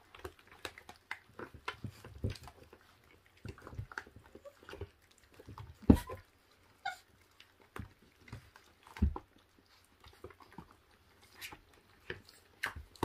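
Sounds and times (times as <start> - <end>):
puppies chewing meat and bones: 0.0 - 13.0.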